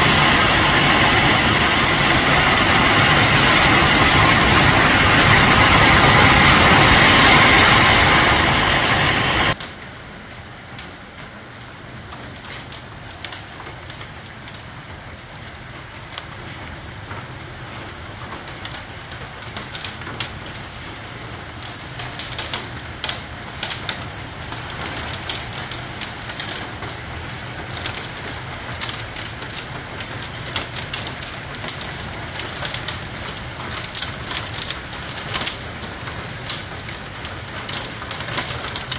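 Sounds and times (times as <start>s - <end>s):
hail and heavy rain on roof: 0.0s - 38.9s
rain pattering: 0.0s - 38.9s.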